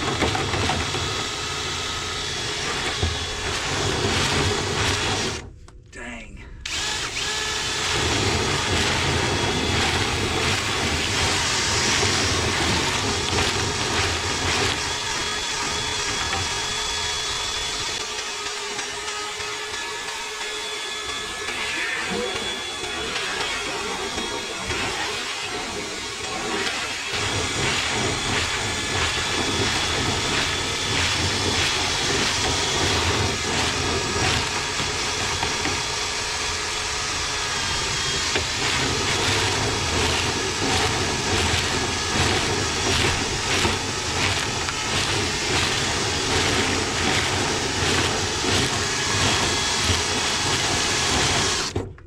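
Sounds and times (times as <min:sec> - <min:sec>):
motor hum and whine: 0:00.0 - 0:52.0.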